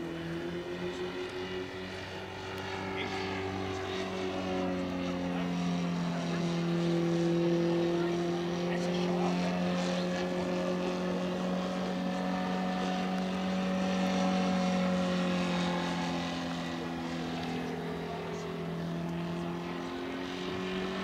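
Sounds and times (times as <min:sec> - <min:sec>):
model plane propeller drone: 0:00.0 - 0:21.0.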